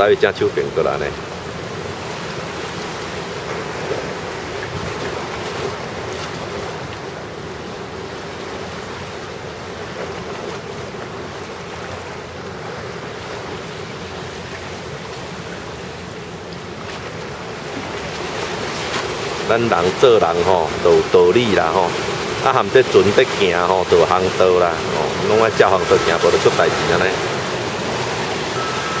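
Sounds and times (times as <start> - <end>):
rough sea surging and breaking: 0.0 - 29.0.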